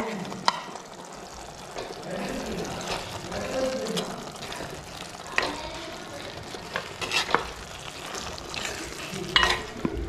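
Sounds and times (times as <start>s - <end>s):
onion masala sizzling: 0.0s - 10.0s.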